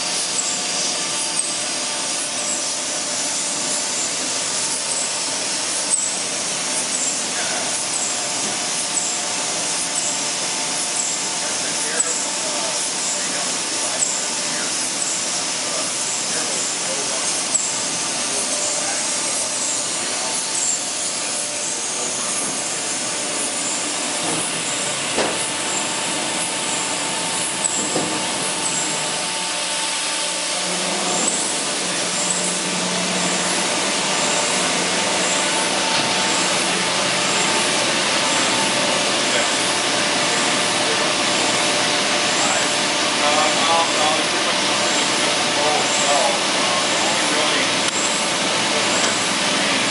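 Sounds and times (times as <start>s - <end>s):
faint humming tones: 0.0s - 49.9s.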